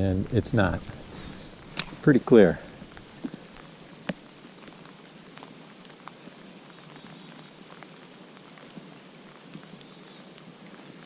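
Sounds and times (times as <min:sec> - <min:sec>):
steady rain hiss with drop ticks: 0:00.0 - 0:11.0.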